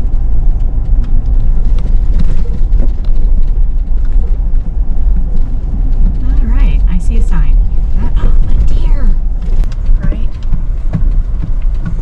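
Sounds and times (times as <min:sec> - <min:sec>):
car road and engine rumble: 0:00.0 - 0:12.0
small rattles and clicks: 0:00.0 - 0:12.0.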